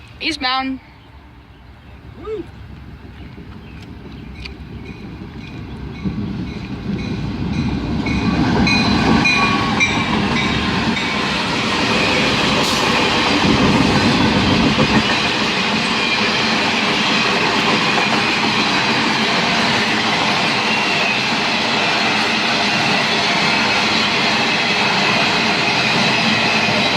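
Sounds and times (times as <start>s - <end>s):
train wheels on rails: 2.5s - 26.9s.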